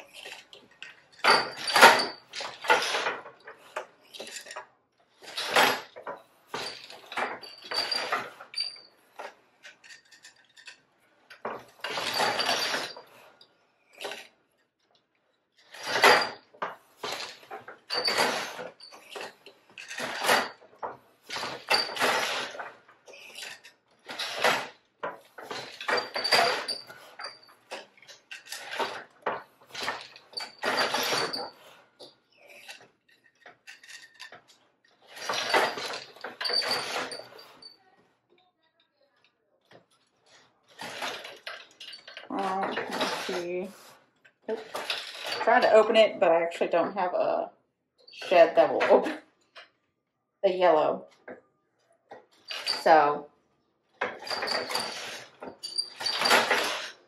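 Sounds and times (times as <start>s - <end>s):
wooden loom clattering: 0.0s - 14.3s, 15.6s - 37.9s, 39.7s - 43.9s, 44.5s - 47.3s, 48.1s - 49.7s, 52.1s - 53.2s, 54.0s - 57.0s.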